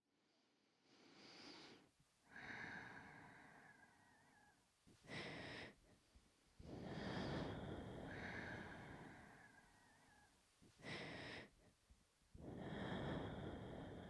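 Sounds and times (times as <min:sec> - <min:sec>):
woman breathing softly: 0:00.4 - 0:14.0.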